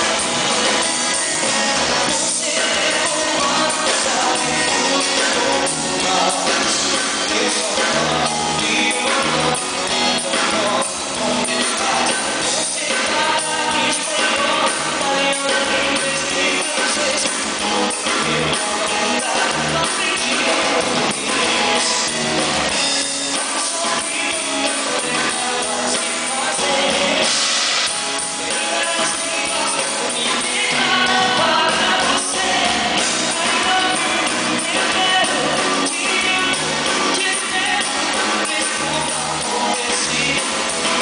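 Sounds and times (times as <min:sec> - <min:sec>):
live band music: 0:00.0 - 0:41.0
person singing: 0:00.0 - 0:41.0.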